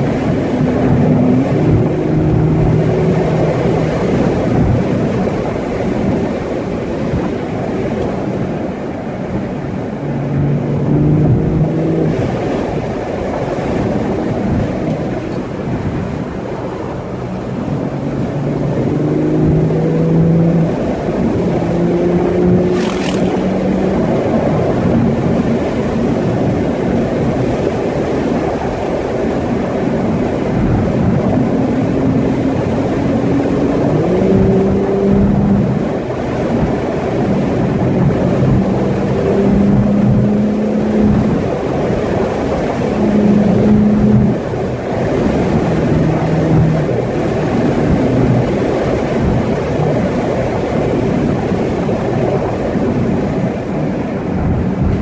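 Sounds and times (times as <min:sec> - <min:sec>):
car engine: 0:00.0 - 0:55.0
wind noise: 0:00.0 - 0:55.0.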